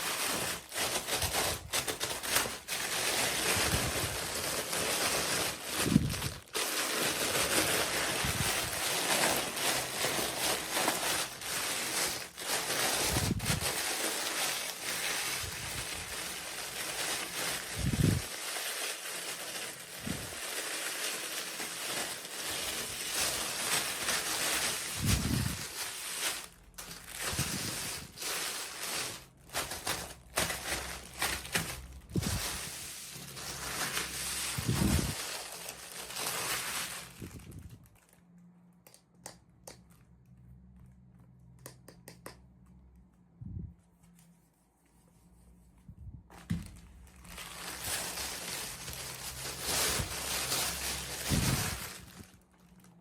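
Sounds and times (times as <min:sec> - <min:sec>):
plastic and paper wrapping crinkling: 0:00.0 - 0:38.4, 0:46.3 - 0:53.0.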